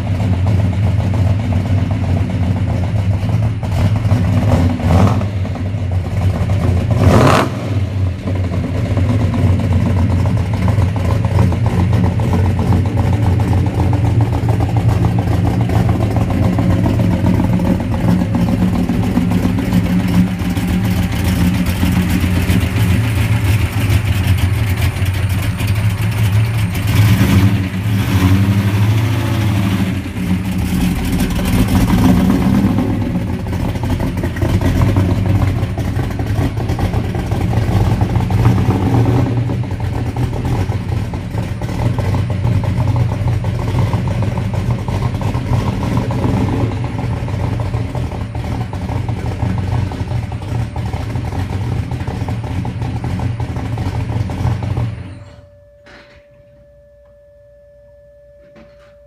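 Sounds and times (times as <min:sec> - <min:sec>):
car engine running at low revs: 0:00.0 - 0:55.6.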